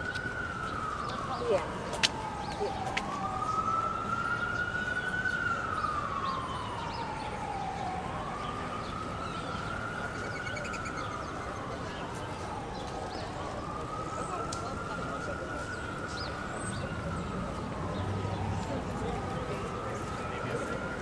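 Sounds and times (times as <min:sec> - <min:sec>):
city background noise: 0:00.0 - 0:21.0
emergency vehicle siren wailing: 0:00.0 - 0:21.0.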